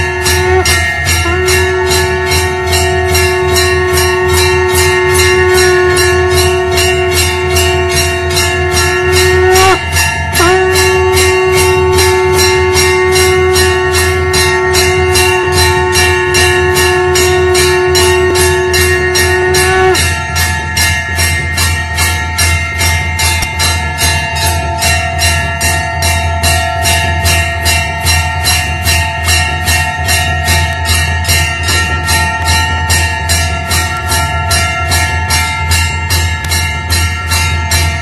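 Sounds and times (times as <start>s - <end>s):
conch shell blown: 0.0s - 36.6s
temple bell ringing: 0.0s - 38.0s.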